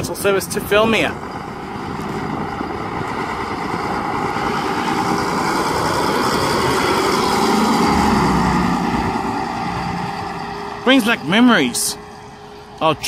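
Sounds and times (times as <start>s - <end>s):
bus diesel engine passing: 0.0s - 13.0s.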